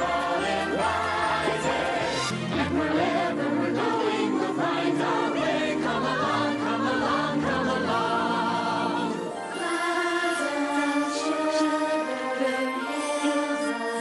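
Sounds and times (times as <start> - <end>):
choir singing with instrumental backing: 0.0 - 14.0.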